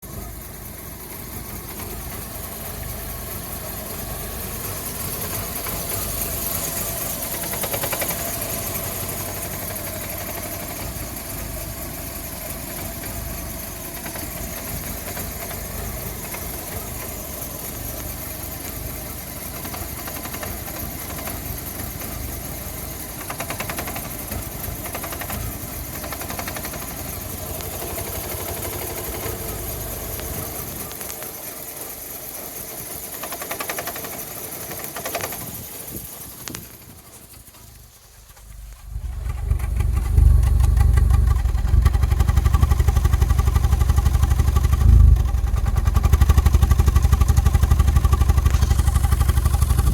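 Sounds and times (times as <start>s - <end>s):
car engine idling roughly: 0.0s - 49.9s.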